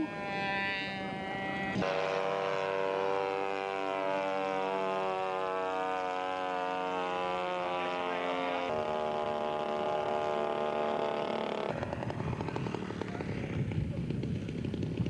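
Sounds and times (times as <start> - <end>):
model airplane engine running: 0.0 - 15.0
rough pulsing engine sound: 0.0 - 15.0.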